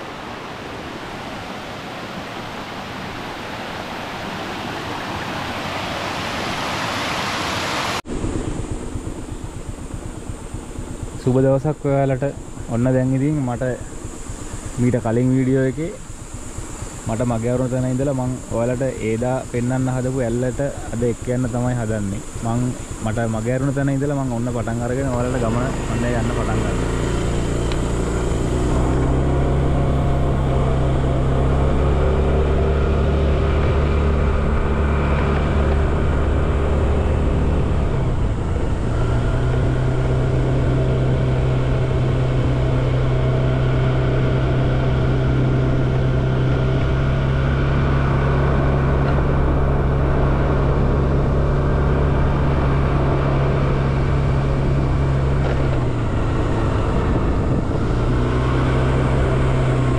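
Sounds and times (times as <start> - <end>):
vehicle engine running: 7.9 - 59.9.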